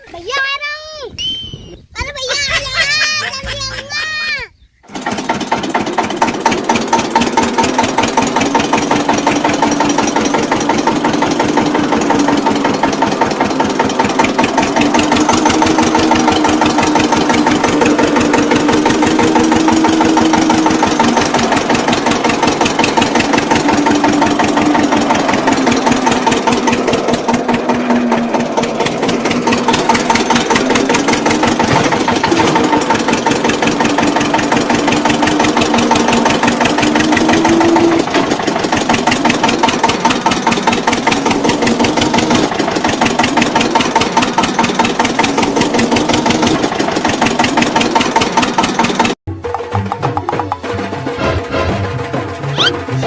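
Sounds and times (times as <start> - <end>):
small tractor engine chugging: 2.1 - 51.3.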